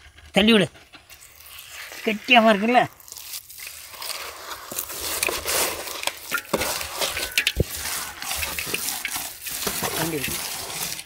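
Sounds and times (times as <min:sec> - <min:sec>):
wet stirring and scraping: 0:00.0 - 0:11.0.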